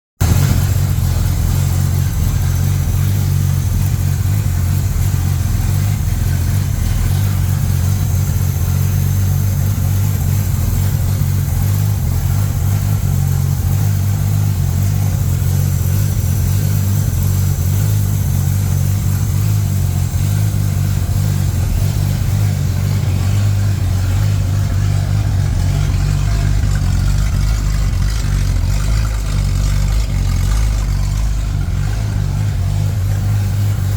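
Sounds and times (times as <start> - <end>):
engine idling through exhaust: 0.2 - 33.9.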